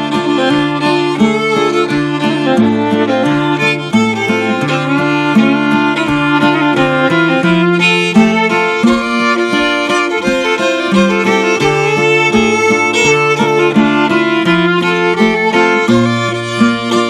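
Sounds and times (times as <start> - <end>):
acoustic guitar backing: 0.0 - 17.0
fiddle melody: 0.0 - 17.0.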